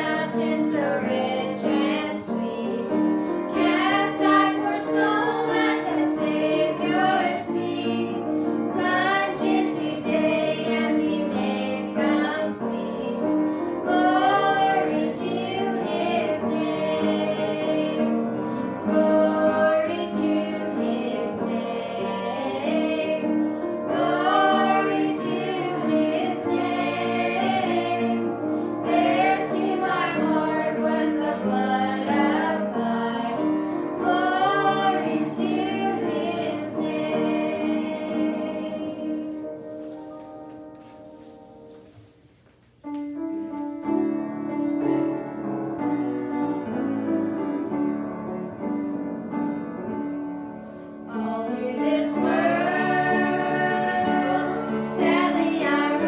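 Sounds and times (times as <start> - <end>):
women and children singing a hymn: 0.0 - 39.9, 50.9 - 56.0
piano accompaniment: 0.0 - 56.0.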